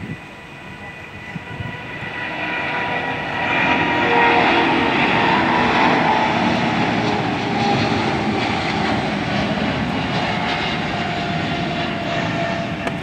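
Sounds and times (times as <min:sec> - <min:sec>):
jet engines rushing with whine: 0:00.0 - 0:13.0.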